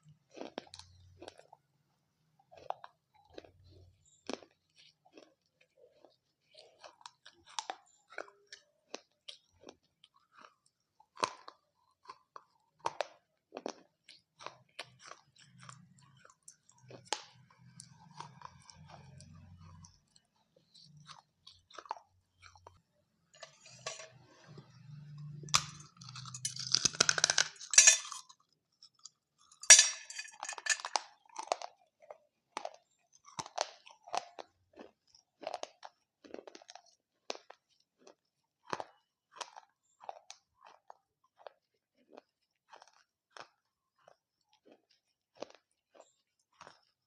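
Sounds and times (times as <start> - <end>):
wet chewing: 2.4 - 29.7, 30.6 - 47.0
crunchy bites: 2.5 - 22.8, 23.4 - 29.8, 30.4 - 44.7, 45.3 - 47.0.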